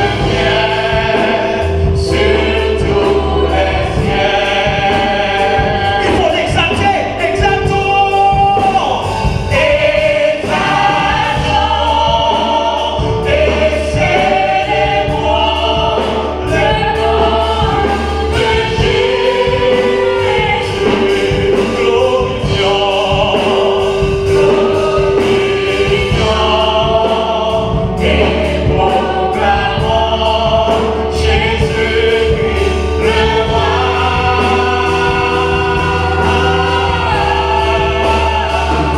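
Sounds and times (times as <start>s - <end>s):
gospel choir singing a hymn: 0.0s - 38.9s
instrumental accompaniment with bass: 0.0s - 38.9s.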